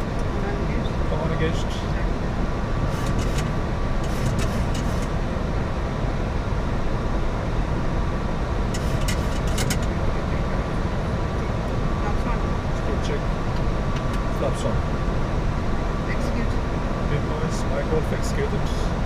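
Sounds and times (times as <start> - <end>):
airflow and engine rumble: 0.0 - 19.0.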